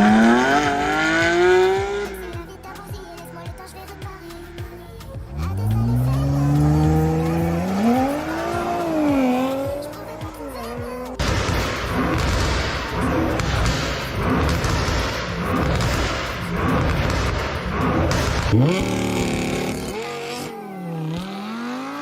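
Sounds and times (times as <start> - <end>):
rough engine with sharp cracks: 0.0 - 20.5
car engine revving: 0.0 - 22.0.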